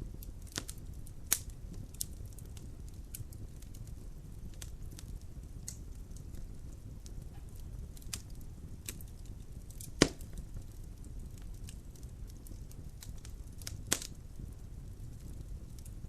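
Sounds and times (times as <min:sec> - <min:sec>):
fire burning with low rumble: 0:00.0 - 0:16.0
wood crackling and popping: 0:00.0 - 0:16.0.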